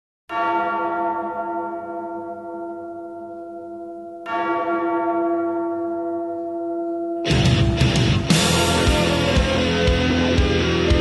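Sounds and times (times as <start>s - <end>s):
large bell ringing: 0.3s - 11.0s.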